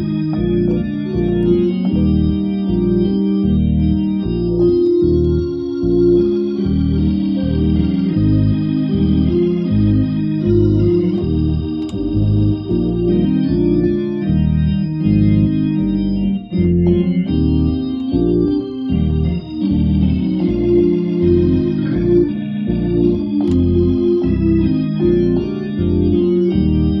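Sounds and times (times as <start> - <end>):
organ playing chords: 0.0 - 27.0.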